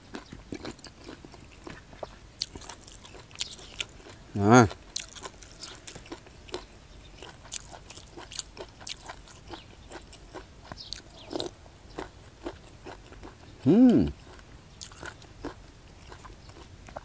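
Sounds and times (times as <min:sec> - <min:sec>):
person chewing crunchy mushrooms: 0:00.0 - 0:17.0.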